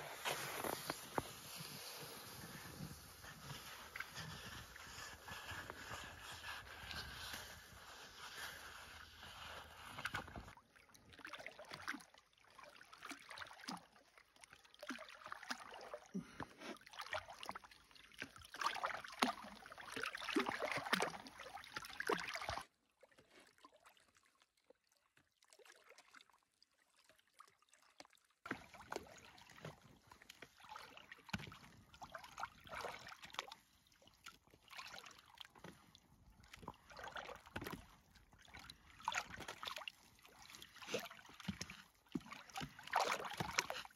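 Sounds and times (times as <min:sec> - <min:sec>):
ice slush splashing and sloshing: 0:00.0 - 0:23.8, 0:28.5 - 0:43.9.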